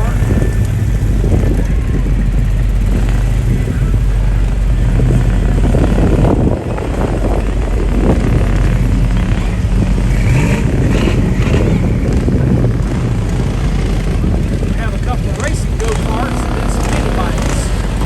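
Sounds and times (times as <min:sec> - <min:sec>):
vehicle engines droning: 0:00.0 - 0:18.0.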